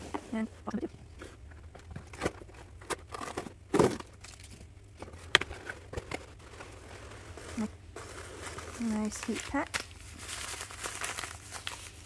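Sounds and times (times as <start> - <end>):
packing peanuts rustling: 1.4 - 12.0.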